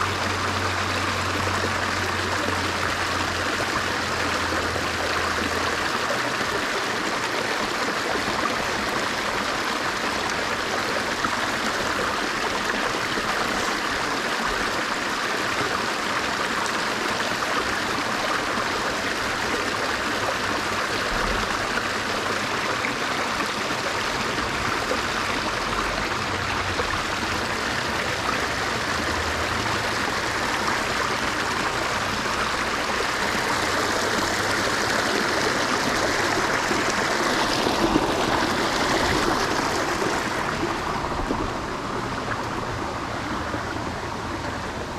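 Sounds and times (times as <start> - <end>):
stream flowing: 0.0 - 44.9.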